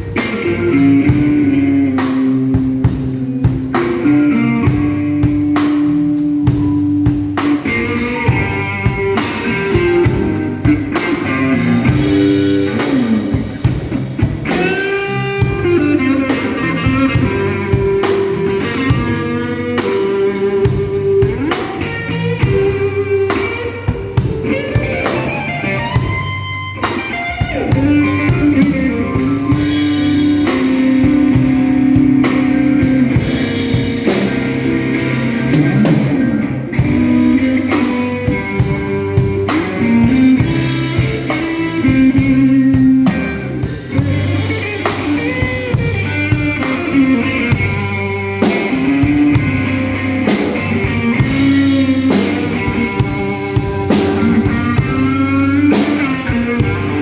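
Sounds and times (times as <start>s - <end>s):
bass: 0.0s - 57.0s
drum kit: 0.0s - 57.0s
electric guitar playing blues: 0.0s - 57.0s.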